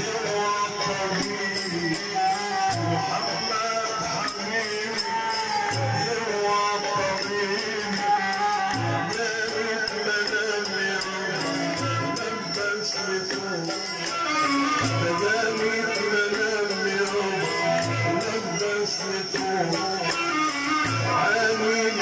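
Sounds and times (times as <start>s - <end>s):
devotional melody: 0.0s - 22.0s
jingling tambourine: 0.0s - 22.0s.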